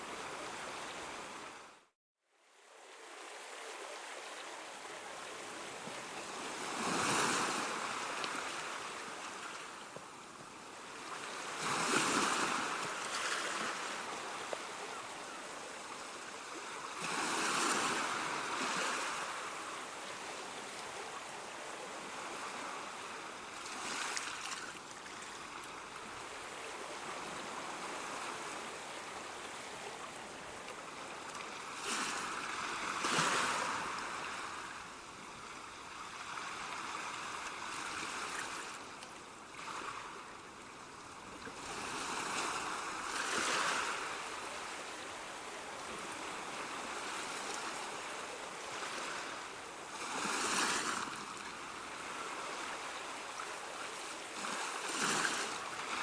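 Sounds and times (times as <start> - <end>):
surf hiss: 2.6 - 56.0
ocean waves breaking: 2.9 - 38.8, 41.6 - 56.0.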